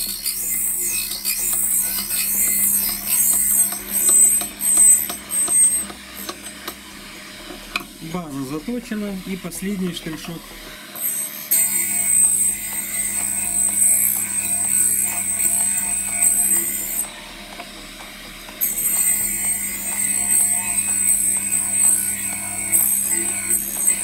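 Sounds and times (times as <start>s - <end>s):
grinding wheel hiss: 0.0s - 24.0s
sharpener motor hum: 0.0s - 24.0s.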